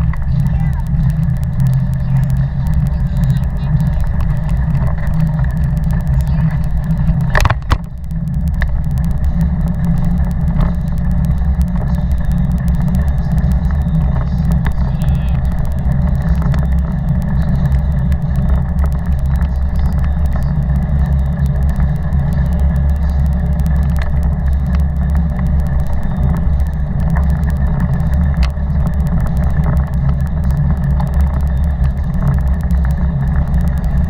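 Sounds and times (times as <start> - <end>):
bike rumbling on paved path: 0.0 - 34.0.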